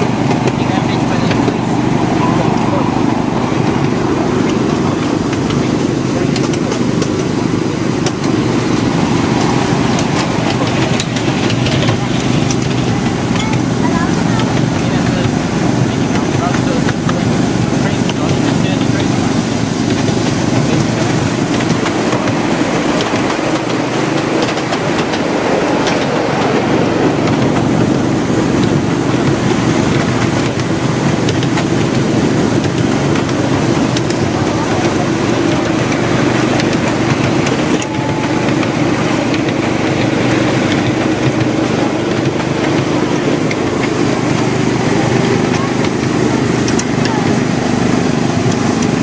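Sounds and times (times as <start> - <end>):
low drone: 0.0 - 49.0
wheels rattling on rails: 0.0 - 49.0.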